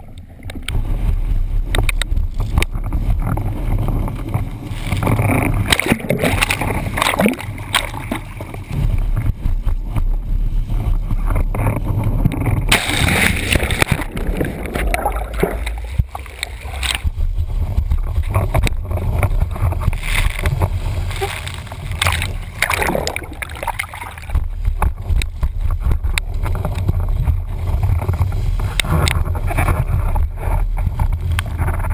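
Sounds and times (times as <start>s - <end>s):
steady muffled rumble: 0.0s - 31.9s
water rushing and slapping board: 0.0s - 31.9s
wind buffeting microphone: 0.0s - 31.9s.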